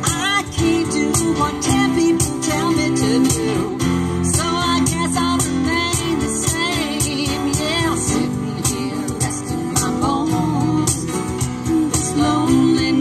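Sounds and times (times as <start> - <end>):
percussion: 0.0 - 13.0
strummed acoustic guitars: 0.0 - 13.0
woman singing: 0.0 - 13.0.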